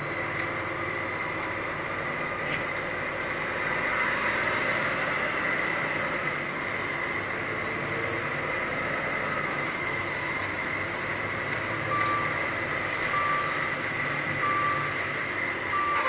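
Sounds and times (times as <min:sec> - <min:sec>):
lorry engine and road noise: 0:00.0 - 0:16.0.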